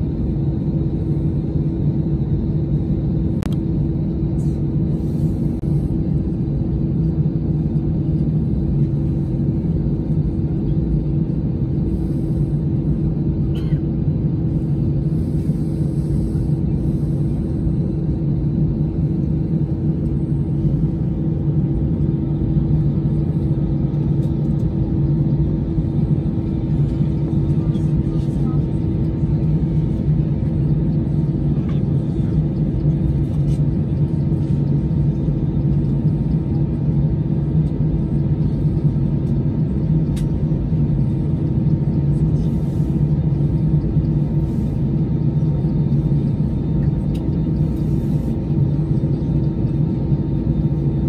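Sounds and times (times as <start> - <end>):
low rumbling drone: 0.0 - 51.0.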